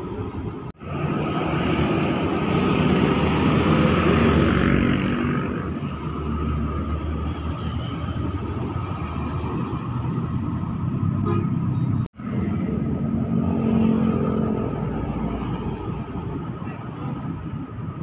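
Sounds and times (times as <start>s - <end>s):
trucks passing: 0.0s - 18.0s.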